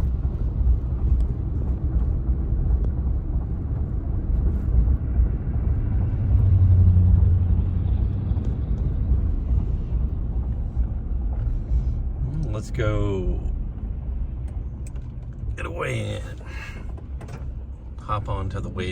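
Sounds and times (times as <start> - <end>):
vehicle engine and road rumble: 0.0 - 18.9.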